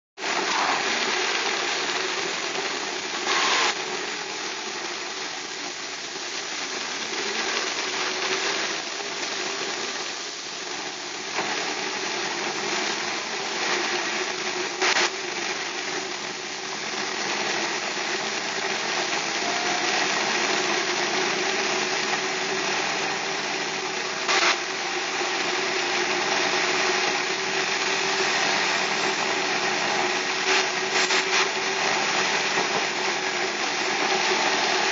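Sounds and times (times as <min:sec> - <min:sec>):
rain on car: 0:00.2 - 0:34.9.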